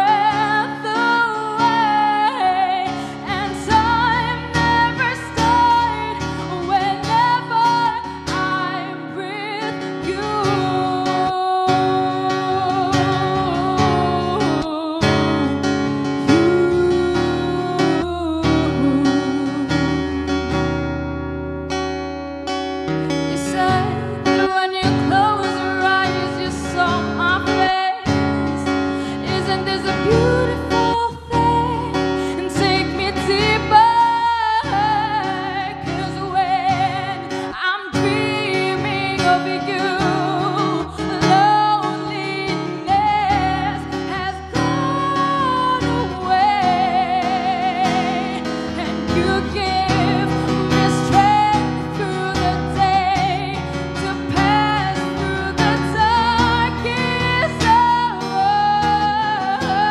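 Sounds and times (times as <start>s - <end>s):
woman singing into a microphone: 0.0s - 20.9s, 22.9s - 59.9s
strummed acoustic guitar: 0.0s - 59.9s.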